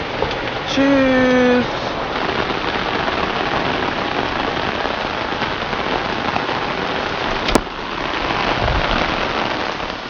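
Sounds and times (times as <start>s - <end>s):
steady rain on wet paving: 0.0s - 10.0s.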